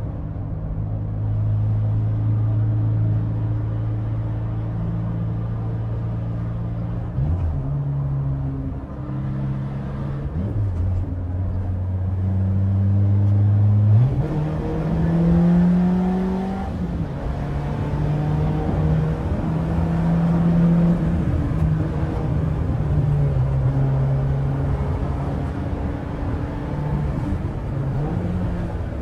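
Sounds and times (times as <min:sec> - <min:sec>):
car engine revving: 0:03.4 - 0:29.0.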